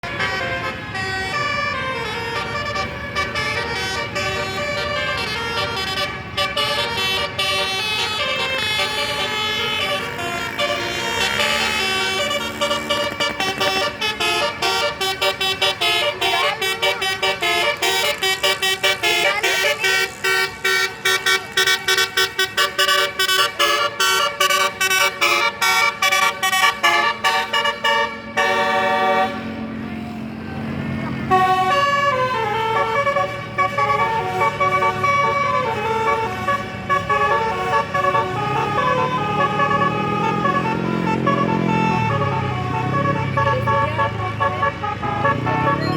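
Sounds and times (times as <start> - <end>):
multi-tone bus air horn melody: 0.0 - 45.9.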